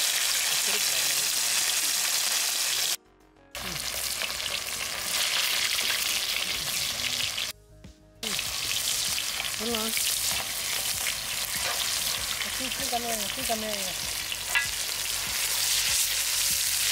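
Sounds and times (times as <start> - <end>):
fish sizzling in oil: 0.0 - 3.0, 3.6 - 7.5, 8.2 - 16.9.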